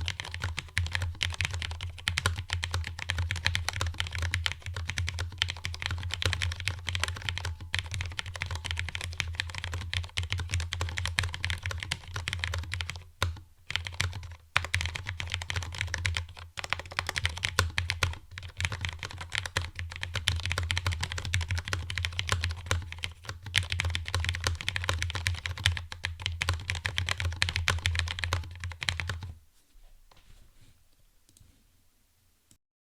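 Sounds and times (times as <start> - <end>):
fast typing on mechanical keyboard: 0.0 - 29.3.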